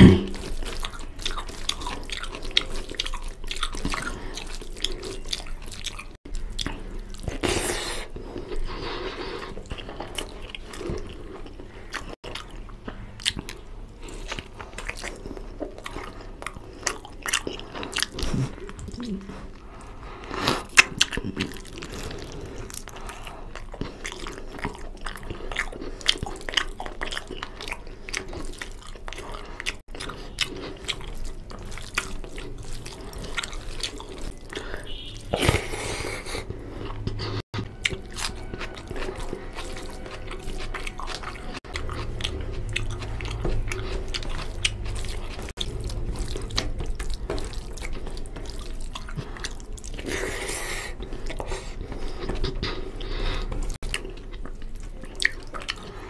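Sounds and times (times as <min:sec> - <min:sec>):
person biting and chewing food: 0:00.0 - 0:56.0.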